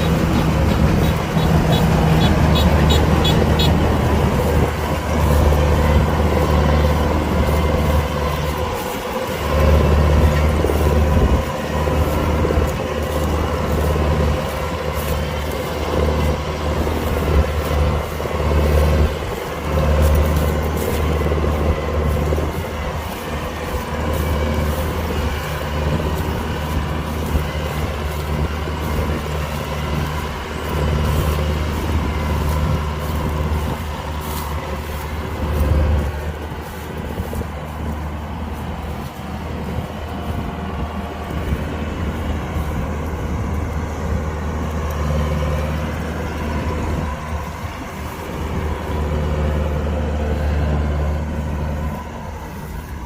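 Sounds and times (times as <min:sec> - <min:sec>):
diesel engine drone: 0:00.0 - 0:53.0
harvester machinery rush: 0:00.0 - 0:53.0.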